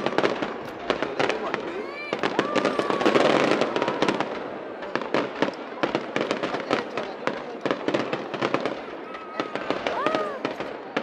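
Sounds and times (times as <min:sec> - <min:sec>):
fireworks pops and bangs: 0:00.0 - 0:11.0.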